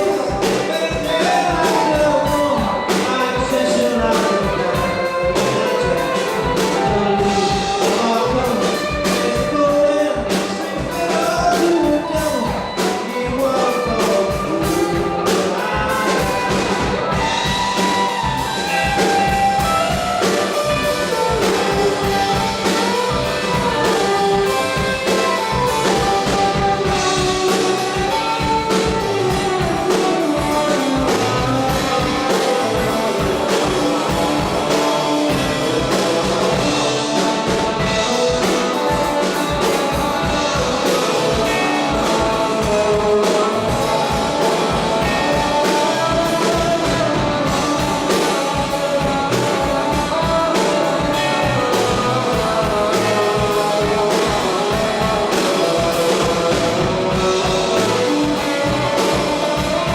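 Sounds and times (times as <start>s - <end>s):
drum kit beat: 0.0s - 59.9s
guitar: 0.0s - 59.9s
lead instrument melody: 0.0s - 59.9s.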